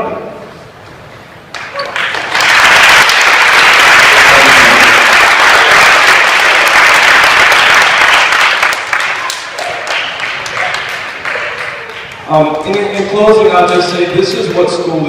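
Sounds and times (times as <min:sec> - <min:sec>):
audience applauding: 0:01.5 - 0:13.9.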